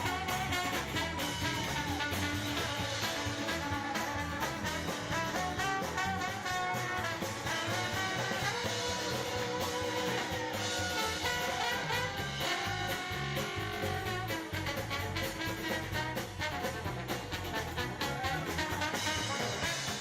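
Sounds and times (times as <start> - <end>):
live band playing upbeat music: 0.0 - 20.0.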